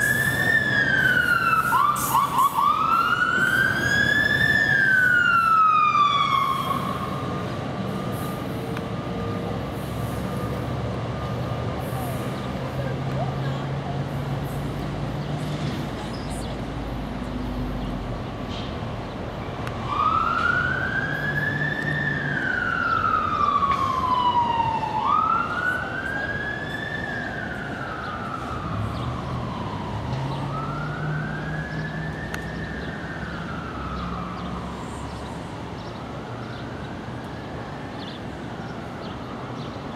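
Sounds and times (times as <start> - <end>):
emergency siren wailing: 0.0 - 15.1, 19.6 - 39.9.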